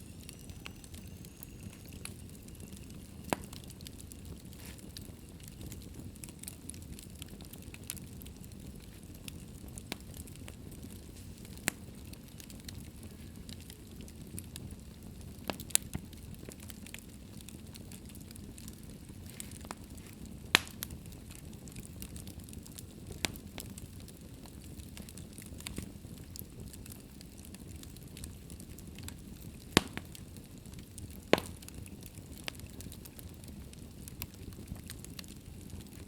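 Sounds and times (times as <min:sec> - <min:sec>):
fire flames rumbling: 0:00.0 - 0:36.0
wood fire crackling and popping: 0:00.0 - 0:36.0.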